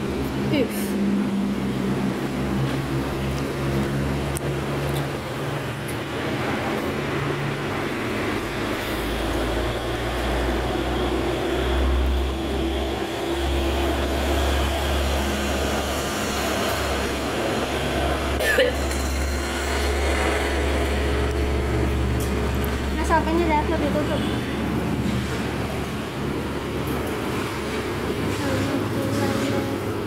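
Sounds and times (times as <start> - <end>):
road traffic hum: 0.0 - 30.0.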